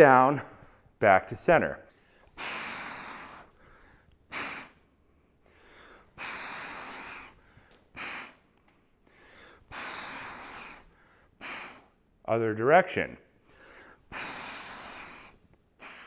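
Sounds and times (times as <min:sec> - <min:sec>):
man breathing audibly: 0:00.4 - 0:01.0, 0:01.9 - 0:12.0, 0:13.3 - 0:16.0.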